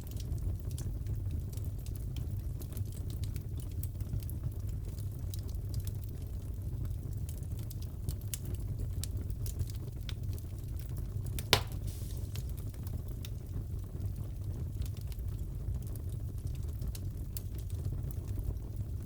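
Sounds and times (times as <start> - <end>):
fire crackling and popping: 0.0 - 19.0
loud crack of fire: 0.0 - 19.0.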